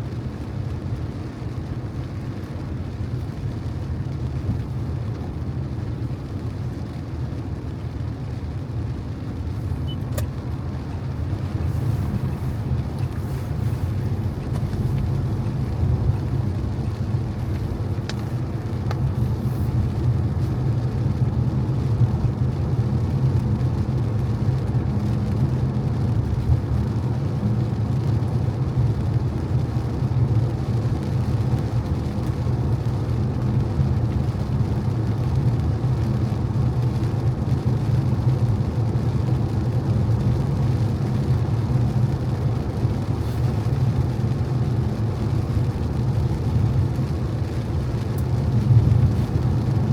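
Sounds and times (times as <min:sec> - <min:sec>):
car tyres on wet road: 0:00.0 - 0:49.9.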